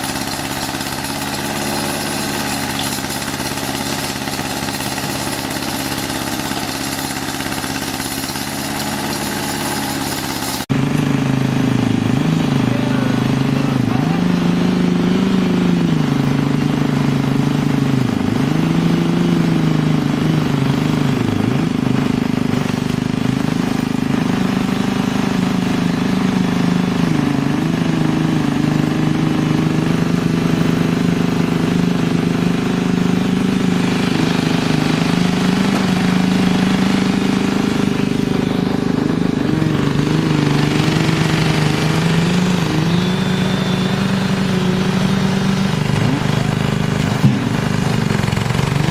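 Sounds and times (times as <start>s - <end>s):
engine running under load: 0.0s - 48.9s.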